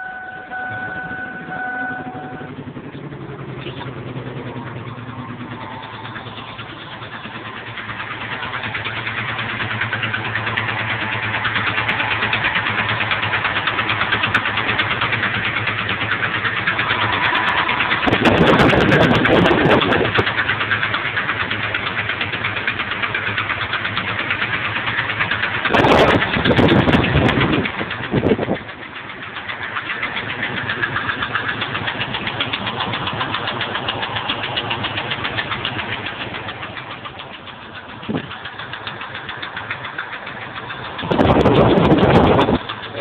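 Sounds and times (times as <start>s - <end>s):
engine running: 0.0s - 43.0s
rapid engine knock: 0.6s - 43.0s.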